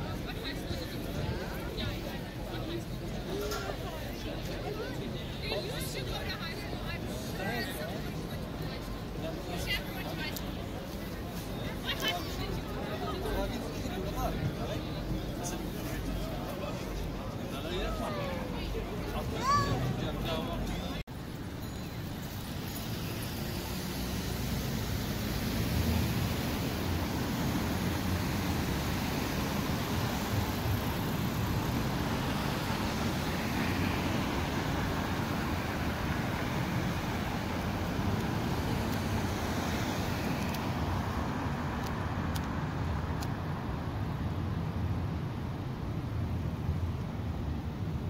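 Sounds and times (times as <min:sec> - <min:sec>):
city traffic rumble: 0:00.0 - 0:48.0.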